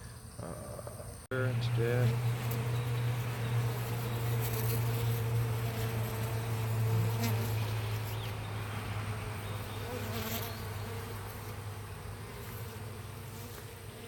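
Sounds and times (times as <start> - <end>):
honeybees buzzing: 1.3 - 14.0.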